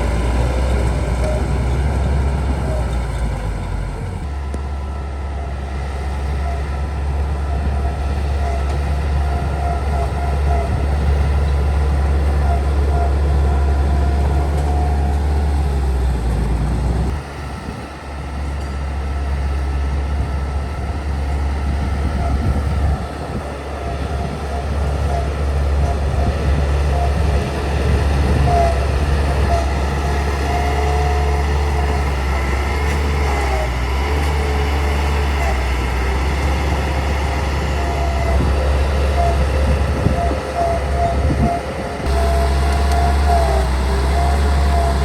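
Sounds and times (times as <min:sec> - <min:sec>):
bulldozer diesel engine rumbling: 0:00.0 - 0:45.0.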